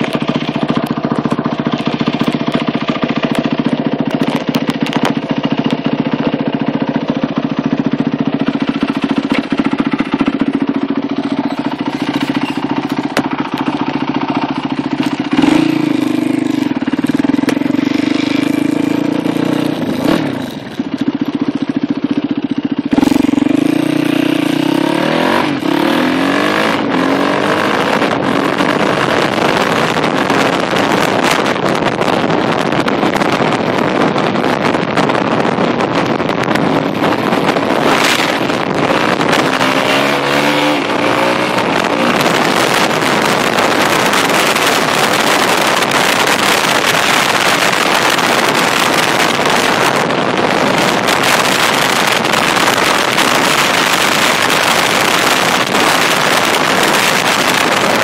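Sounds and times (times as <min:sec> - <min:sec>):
motorcycle engine revving: 0:00.0 - 0:58.0
wind rush: 0:00.0 - 0:58.0.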